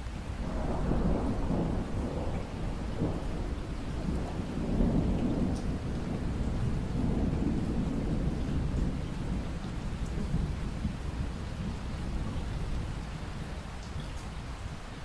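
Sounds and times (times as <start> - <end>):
deep rumble of thunder: 0.0 - 14.9
steady rain: 0.0 - 15.0.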